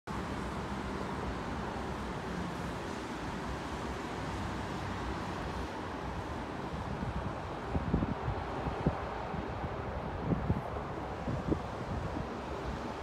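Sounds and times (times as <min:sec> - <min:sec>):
steady roar of airport and traffic: 0:00.1 - 0:13.0.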